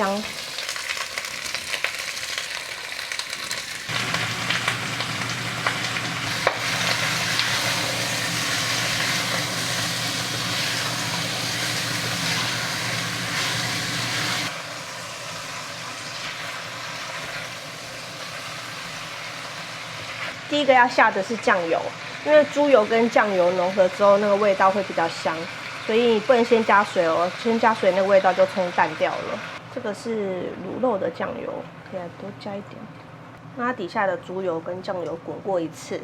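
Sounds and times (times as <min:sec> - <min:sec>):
pork sizzling in hot fat: 0:00.0 - 0:29.6.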